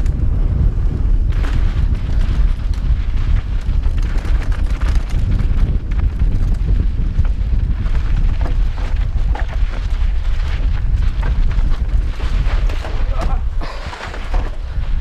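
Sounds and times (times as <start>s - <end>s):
bike clattering over bumps: 0.0s - 15.0s
wind rumble on microphone: 0.0s - 15.0s
tyres crunching over dirt and rocks: 1.3s - 15.0s.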